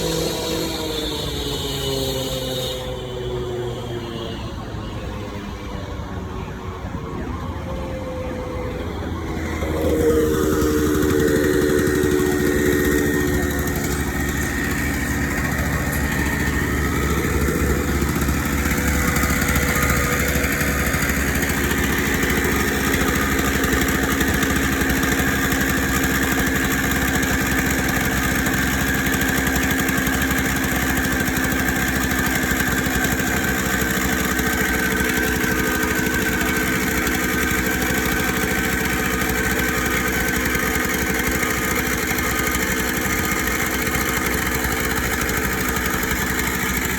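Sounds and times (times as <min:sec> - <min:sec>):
machinery engine running steadily: 0:00.0 - 0:46.9.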